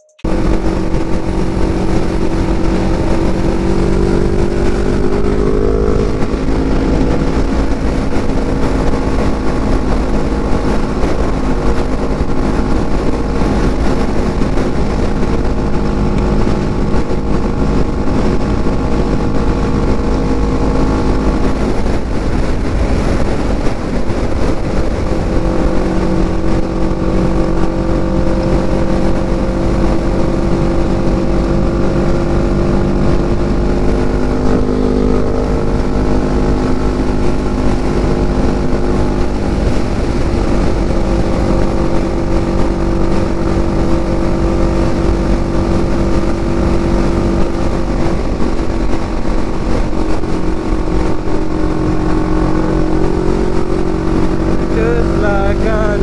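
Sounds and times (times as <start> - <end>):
motorcycle engine at speed: 0.0 - 56.0
wind noise rushing: 0.0 - 56.0.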